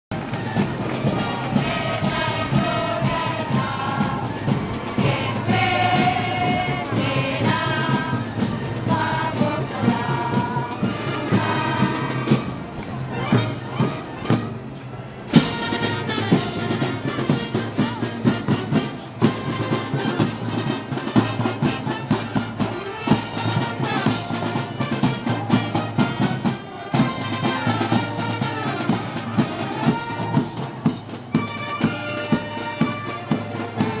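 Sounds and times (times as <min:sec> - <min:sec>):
brass band playing: 0:00.1 - 0:34.0
steady drumbeat: 0:00.1 - 0:34.0.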